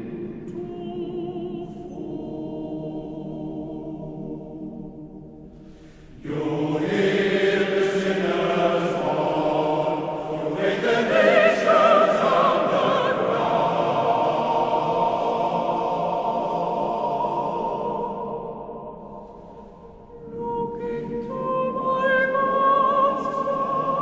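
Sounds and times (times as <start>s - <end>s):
male choir singing: 0.0s - 5.1s, 6.2s - 24.0s.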